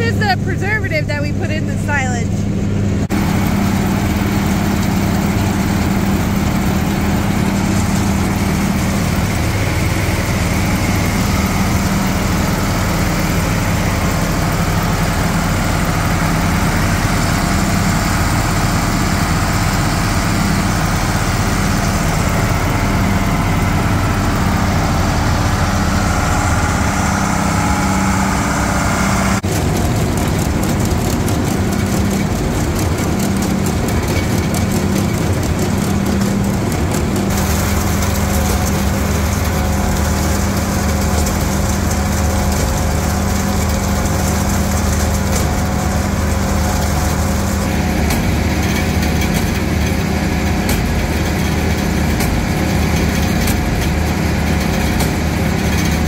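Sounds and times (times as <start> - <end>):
tractor diesel engine running: 0.0 - 56.0
machinery clattering: 3.0 - 56.0.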